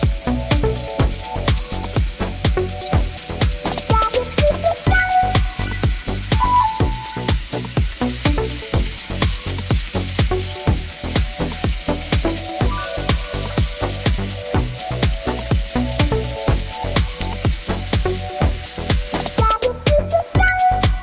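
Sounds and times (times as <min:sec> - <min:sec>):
vegetables sizzling in oil: 0:00.0 - 0:19.8
background music with drum beat: 0:00.0 - 0:21.0.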